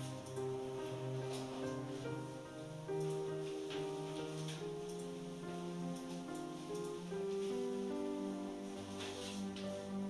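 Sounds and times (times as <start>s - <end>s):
slow soft instrumental music: 0.0s - 10.0s.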